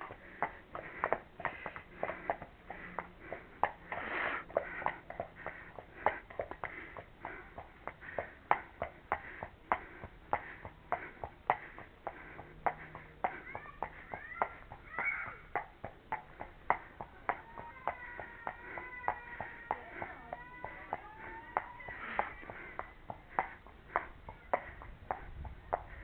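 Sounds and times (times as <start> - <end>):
pony hooves clopping on pavement: 0.0 - 26.0.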